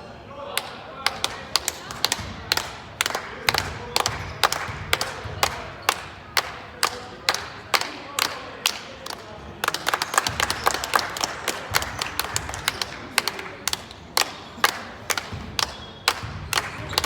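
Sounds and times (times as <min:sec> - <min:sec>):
people clapping together: 0:00.5 - 0:17.0.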